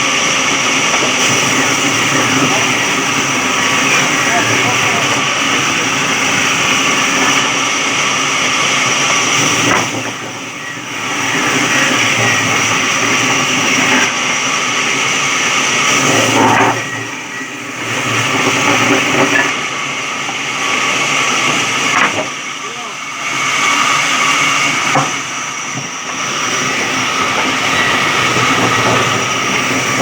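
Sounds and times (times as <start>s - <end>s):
electric saw cutting wood: 0.0s - 30.0s.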